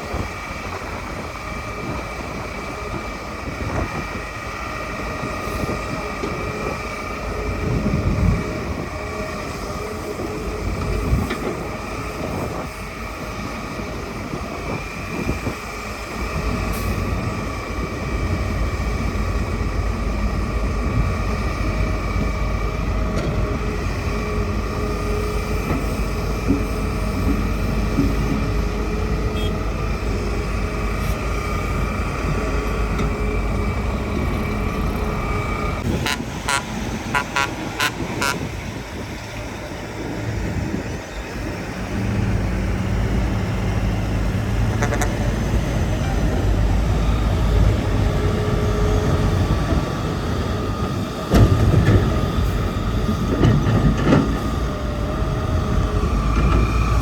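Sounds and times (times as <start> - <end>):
excavator engine rumbling: 0.0 - 57.0
steady hydraulic whine: 0.0 - 57.0.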